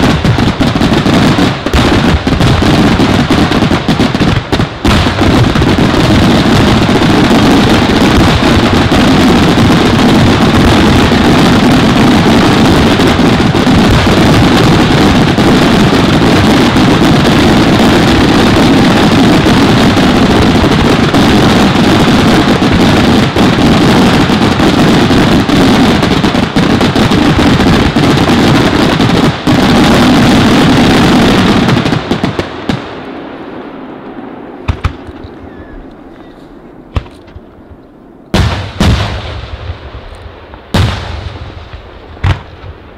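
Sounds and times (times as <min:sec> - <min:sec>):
firework shells bursting and crackling: 0:00.0 - 0:33.1, 0:34.6 - 0:42.9.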